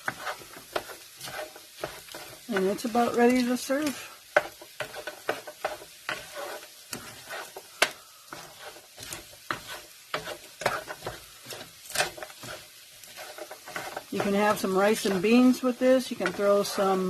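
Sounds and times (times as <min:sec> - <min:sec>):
food sizzling in frying pan: 0:00.0 - 0:17.0
utensil scraping and tapping pan: 0:00.0 - 0:17.0.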